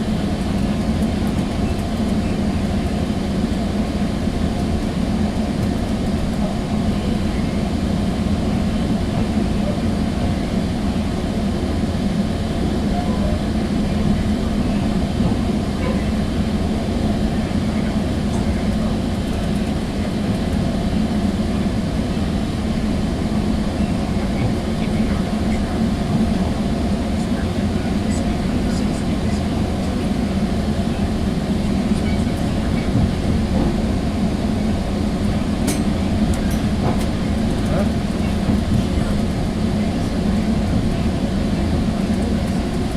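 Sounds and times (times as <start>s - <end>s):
train coach rumble: 0.0s - 42.9s.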